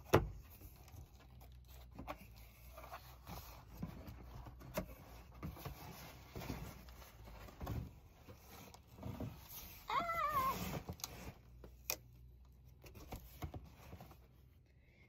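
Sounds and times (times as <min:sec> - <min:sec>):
cardboard scraping and rustling: 0:00.0 - 0:11.8, 0:12.8 - 0:14.5.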